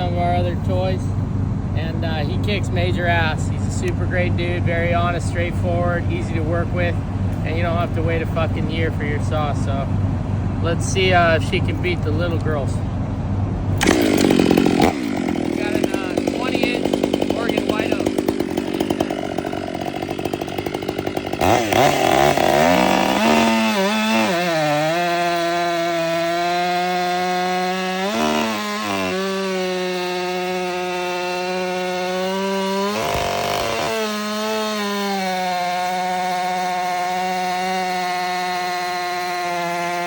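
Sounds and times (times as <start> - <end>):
chainsaw cutting log: 1.8 - 12.7, 13.7 - 40.0.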